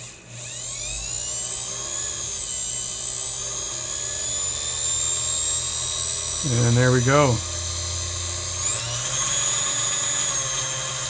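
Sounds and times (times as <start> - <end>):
electric motor high whine: 0.0 - 11.0.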